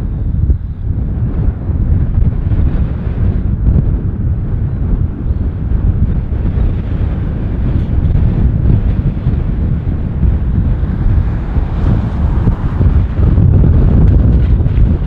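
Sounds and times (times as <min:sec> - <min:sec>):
jet engines rumbling: 0:00.0 - 0:15.0
wind buffeting microphone: 0:00.0 - 0:15.0.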